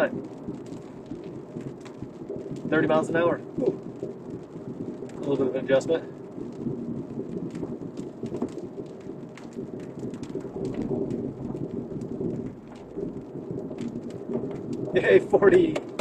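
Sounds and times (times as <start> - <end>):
low road noise: 0.0 - 16.0
raindrops ticking on car: 0.0 - 16.0.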